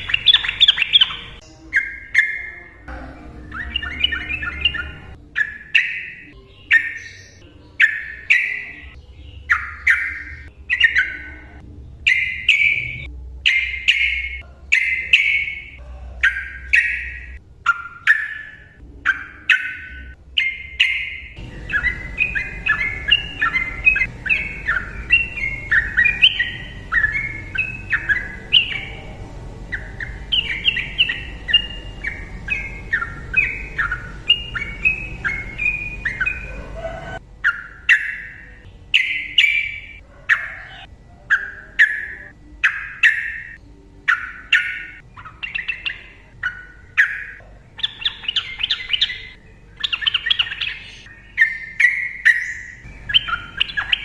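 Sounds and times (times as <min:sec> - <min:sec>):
bird chattering notes: 0:00.0 - 0:54.0
bulbul singing: 0:00.0 - 0:54.0.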